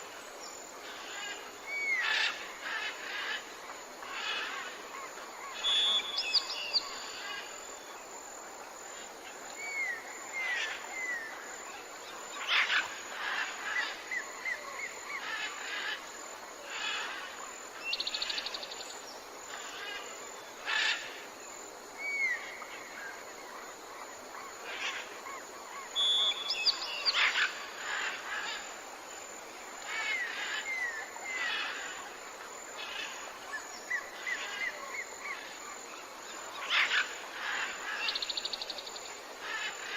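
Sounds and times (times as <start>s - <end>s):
forest background hiss: 0.0s - 39.9s.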